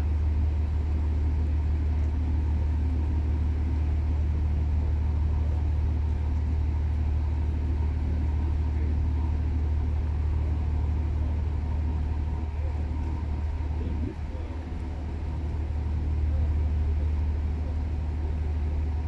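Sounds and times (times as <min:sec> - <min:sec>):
large engine droning: 0:00.0 - 0:19.0.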